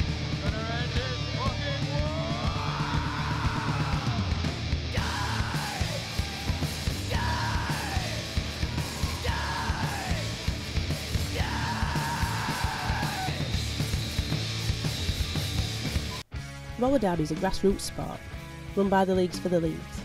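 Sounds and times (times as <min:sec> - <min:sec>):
rock song with shouted vocals: 0:00.0 - 0:16.2
driving drums and bass: 0:00.0 - 0:16.4.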